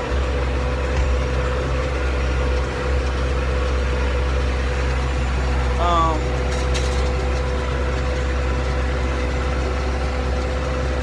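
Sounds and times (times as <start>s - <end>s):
hay baler whine: 0.0s - 11.0s
tractor engine running: 0.0s - 11.0s.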